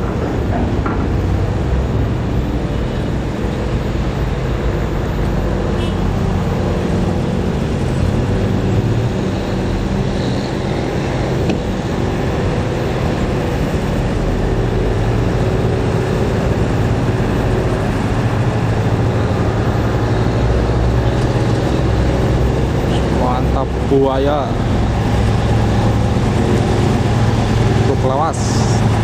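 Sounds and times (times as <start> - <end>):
heavy truck engine droning: 0.0 - 29.0
road noise: 0.0 - 29.0.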